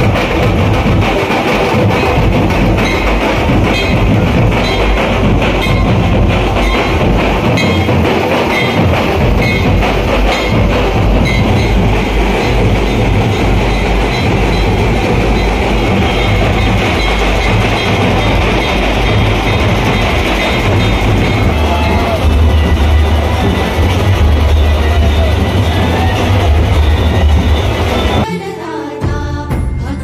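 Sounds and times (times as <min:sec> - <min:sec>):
loud distorted music with drums: 0:00.0 - 0:28.3.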